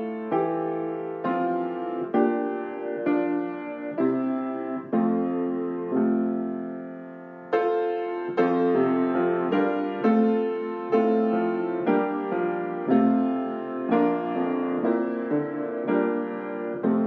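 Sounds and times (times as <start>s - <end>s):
slow solo piano chords: 0.0s - 17.0s.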